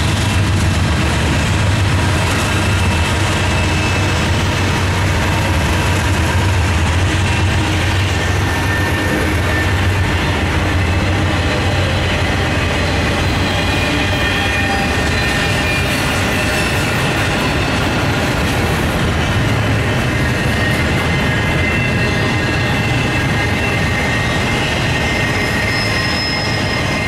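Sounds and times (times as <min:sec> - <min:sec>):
diesel locomotive engine drone: 0:00.0 - 0:27.0
train wheels rumbling on rails: 0:00.0 - 0:27.0.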